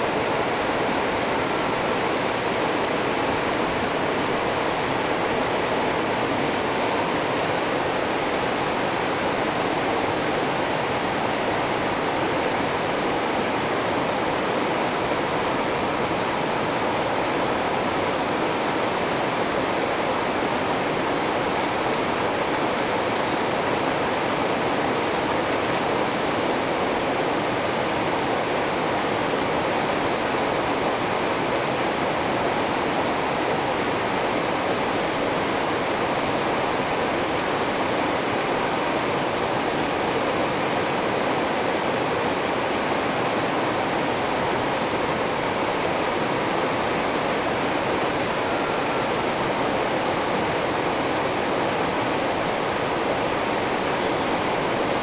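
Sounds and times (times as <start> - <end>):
river rushing over stones: 0.0 - 55.0.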